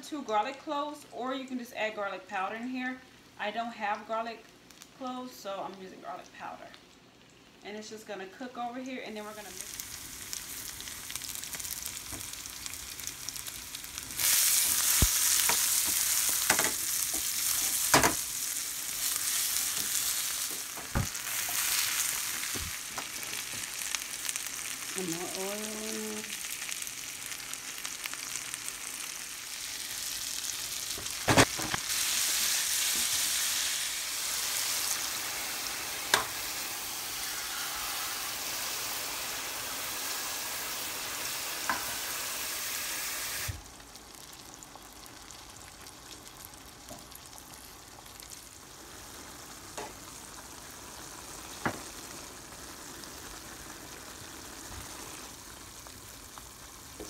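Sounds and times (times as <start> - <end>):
vegetables sizzling in oil: 4.0 - 57.0.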